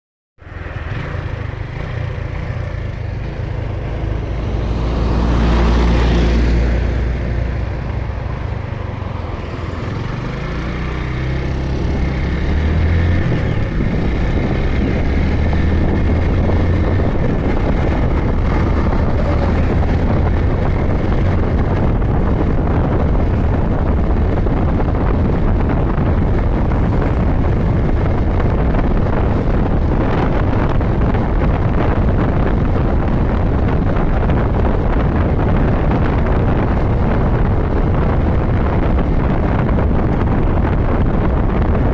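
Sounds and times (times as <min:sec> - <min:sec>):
wind noise on microphone: 0:00.4 - 0:41.9
motorcycle engine accelerating: 0:00.5 - 0:41.9.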